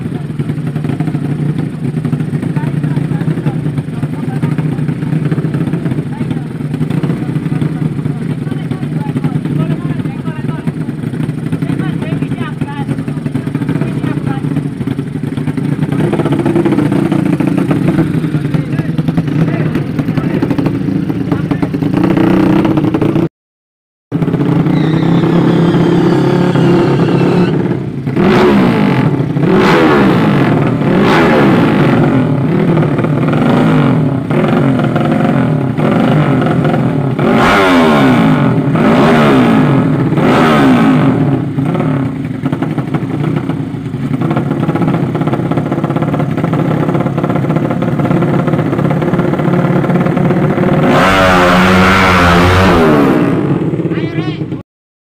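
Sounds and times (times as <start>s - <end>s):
motorcycle engines revving: 0.0s - 23.3s, 24.1s - 54.6s.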